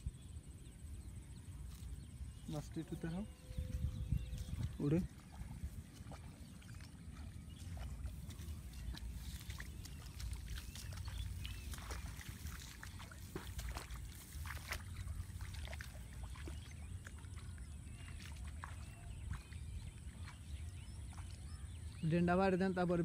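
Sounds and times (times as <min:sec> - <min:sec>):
feet splashing through water: 0:03.4 - 0:22.3.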